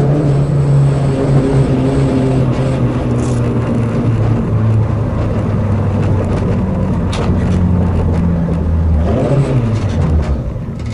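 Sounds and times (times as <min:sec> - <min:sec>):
car engine running at low revs: 0:00.0 - 0:10.9.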